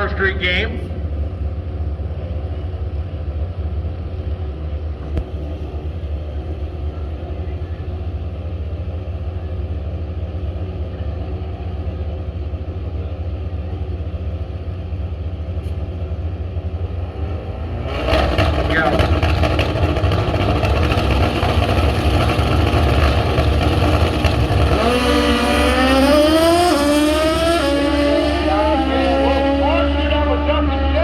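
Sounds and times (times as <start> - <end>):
motorcycle engines idling: 0.0 - 17.8, 18.5 - 30.7.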